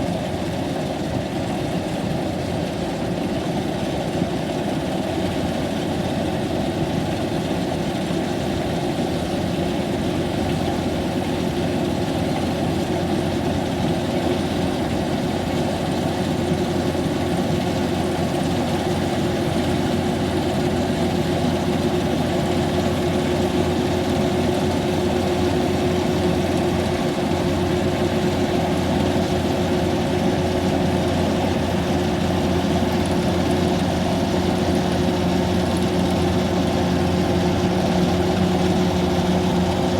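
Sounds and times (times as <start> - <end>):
harvester engine running: 4.4 - 39.9.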